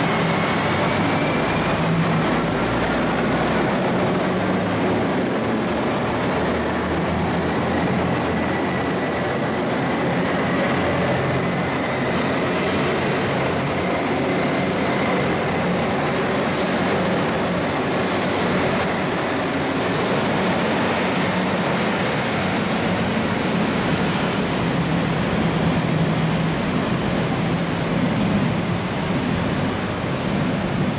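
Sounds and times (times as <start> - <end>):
diesel train engine whine: 0.0 - 30.9
heavy rain hiss: 0.0 - 30.9
train rumble: 0.0 - 30.9.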